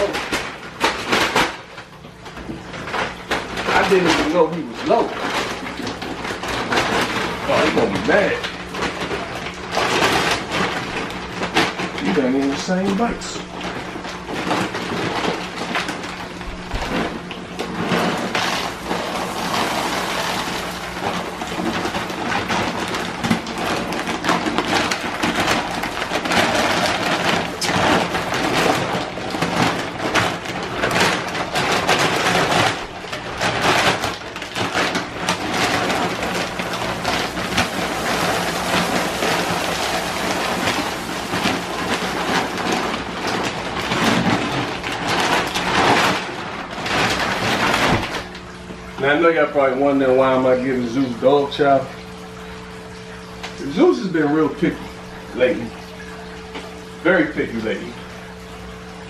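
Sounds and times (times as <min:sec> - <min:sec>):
kibble pouring into plastic bin: 0:02.9 - 0:51.9.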